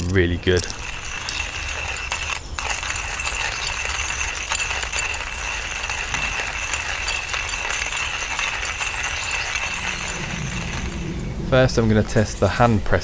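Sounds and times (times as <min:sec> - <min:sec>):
hand coffee grinder cranking: 0:00.0 - 0:11.3.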